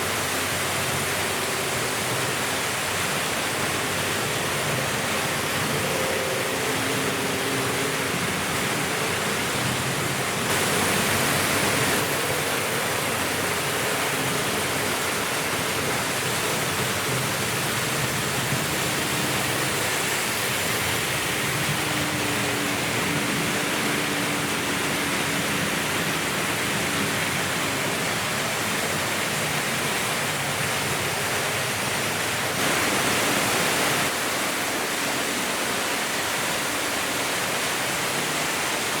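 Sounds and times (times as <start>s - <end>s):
faint hum of small motors: 0.0s - 39.0s.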